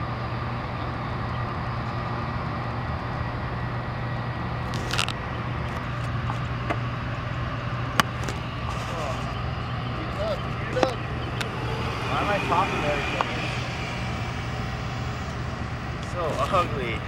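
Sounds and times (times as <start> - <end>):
constant low hum: 0.0 - 17.0
road traffic rumble: 0.0 - 17.0.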